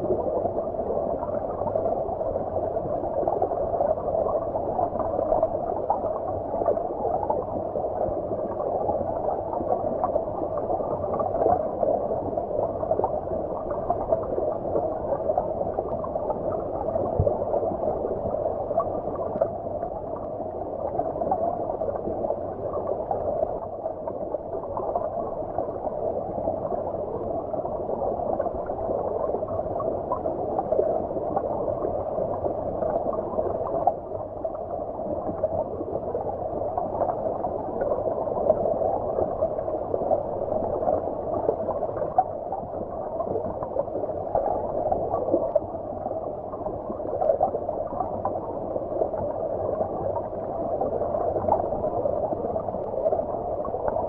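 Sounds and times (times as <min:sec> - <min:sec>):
muffled underwater stream gurgling: 0:00.0 - 0:54.0.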